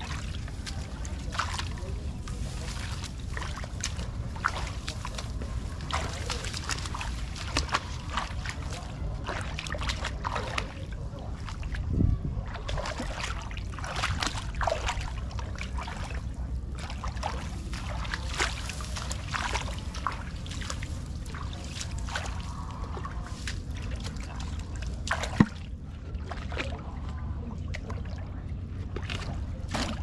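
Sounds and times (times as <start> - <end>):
steady low rumble: 0.0 - 30.0
water splashing and trickling: 0.0 - 30.0.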